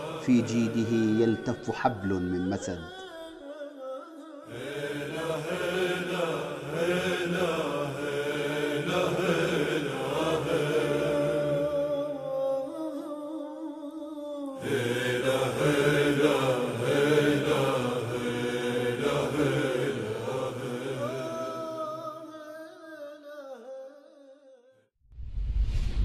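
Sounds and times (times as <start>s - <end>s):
solo voice chanting: 0.0s - 24.9s.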